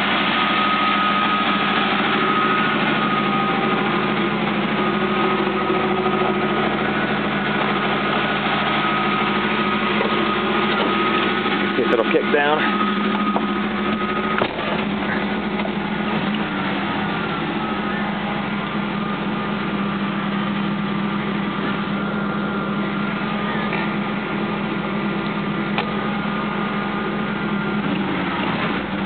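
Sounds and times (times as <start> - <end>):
car engine under throttle: 0.0 - 29.0
transmission kicking down: 0.0 - 29.0.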